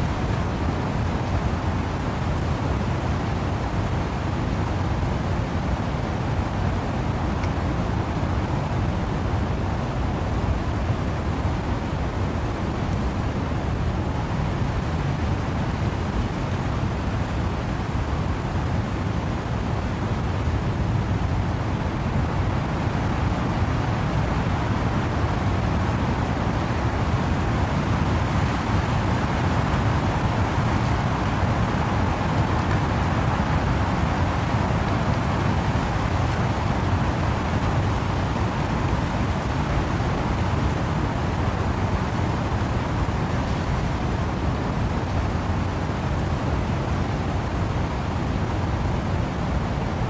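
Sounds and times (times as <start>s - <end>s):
wind through trees: 0.0s - 50.0s
windy rain: 0.0s - 50.0s.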